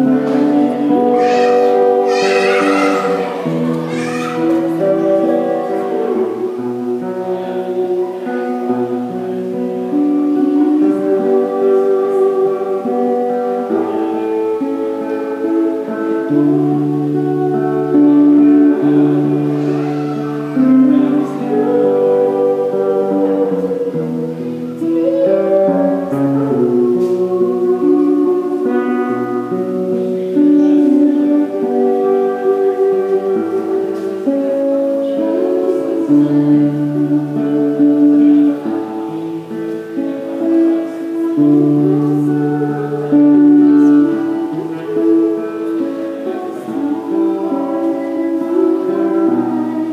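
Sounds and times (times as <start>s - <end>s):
acoustic guitar: 0.0s - 49.9s
woman singing: 0.0s - 49.9s.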